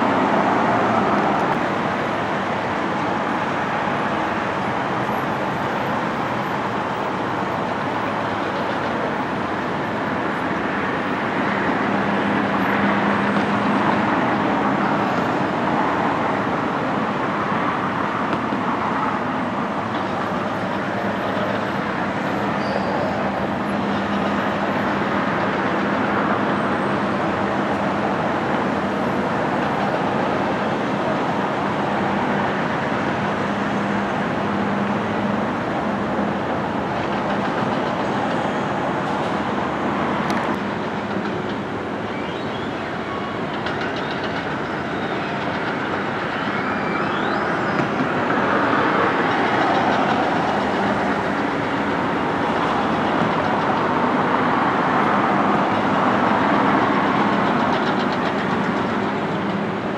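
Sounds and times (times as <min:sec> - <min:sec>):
distant vehicle traffic: 0:00.0 - 0:59.9.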